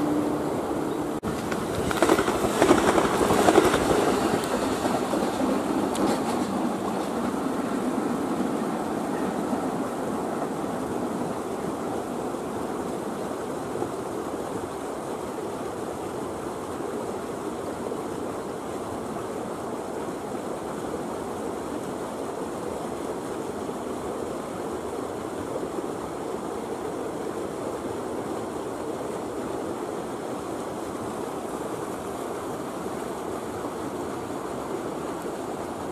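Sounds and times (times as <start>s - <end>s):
steady rushing noise: 0.0s - 35.9s.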